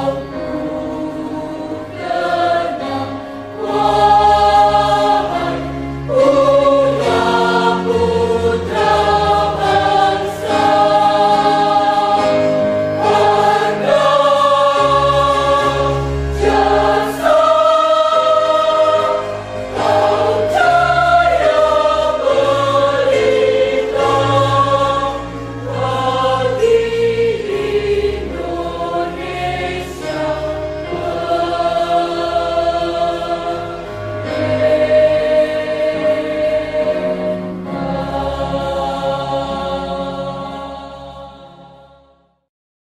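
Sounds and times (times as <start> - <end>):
low accompaniment: 0.0 - 41.1
choir singing held notes: 0.0 - 42.2.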